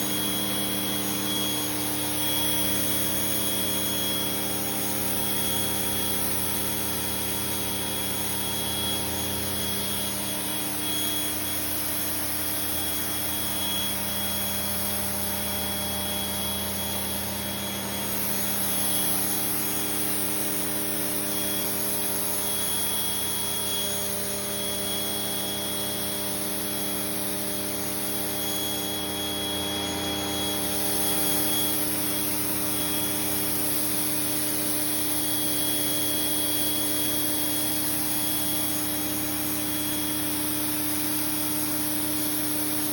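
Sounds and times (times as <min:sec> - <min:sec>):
pressure washer running: 0:00.0 - 0:42.9.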